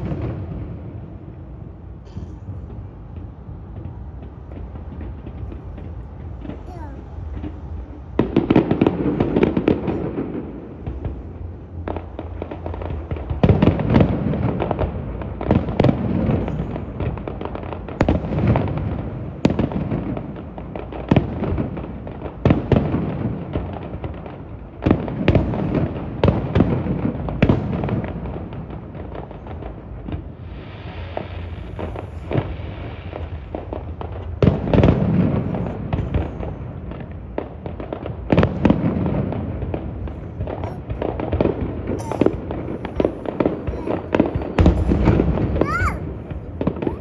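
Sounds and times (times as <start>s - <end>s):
fireworks bangs with rumble: 0.0s - 47.0s.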